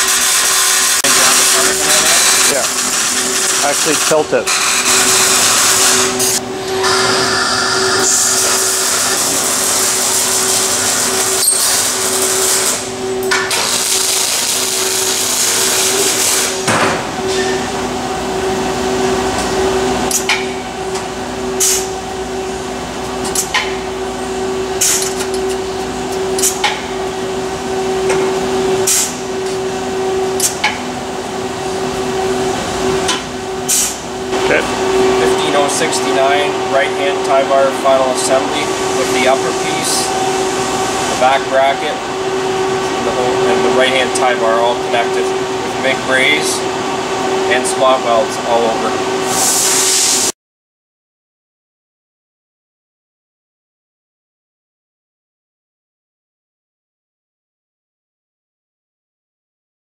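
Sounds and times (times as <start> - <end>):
machinery humming: 0.0 - 50.3.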